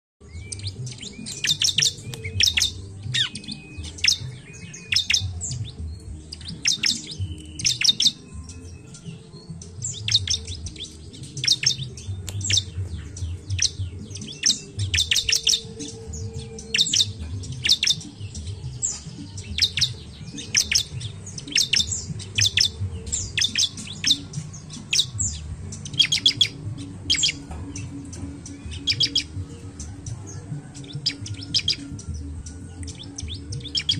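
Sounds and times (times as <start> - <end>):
bird chirping: 0.2 - 33.9.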